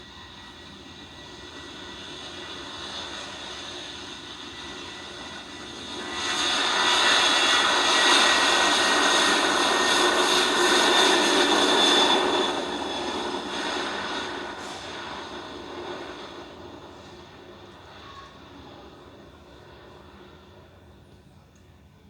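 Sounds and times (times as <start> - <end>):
jet airliner passing: 0.0 - 21.1.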